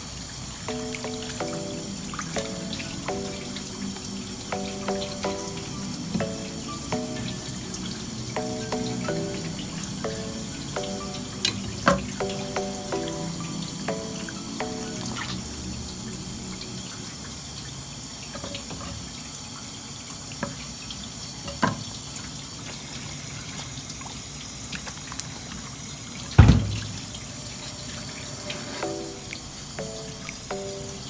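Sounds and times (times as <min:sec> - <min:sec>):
tap water running: 0:00.0 - 0:30.9.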